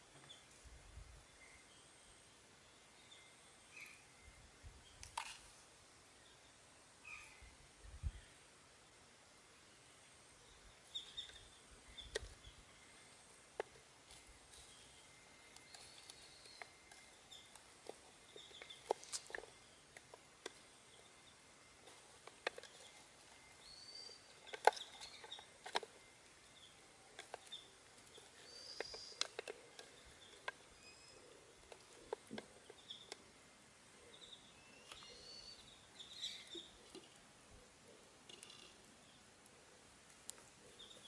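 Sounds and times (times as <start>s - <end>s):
birds chirping faintly: 0.0s - 41.0s.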